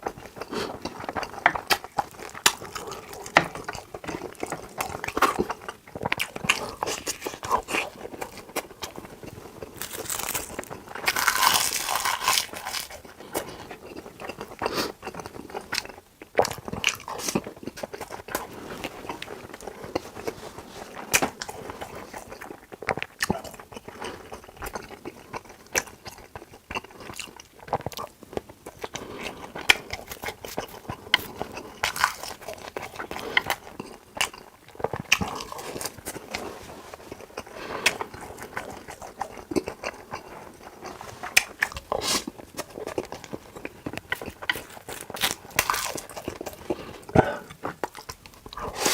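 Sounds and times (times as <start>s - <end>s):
chewing and crunching: 0.0s - 48.9s.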